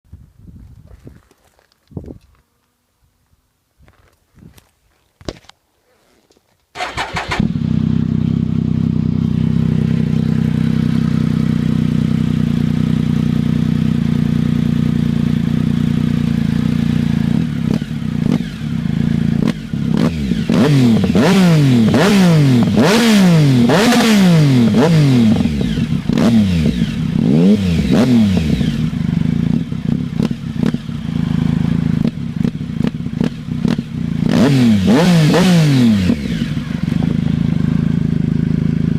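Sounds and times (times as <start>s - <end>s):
motorcycle engine revving: 6.8s - 38.9s.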